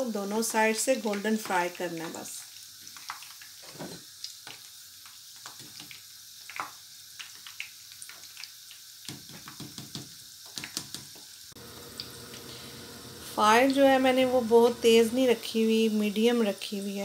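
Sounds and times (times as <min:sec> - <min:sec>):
food deep-frying in hot oil: 0:00.0 - 0:17.0
oil crackling and popping: 0:00.3 - 0:14.0.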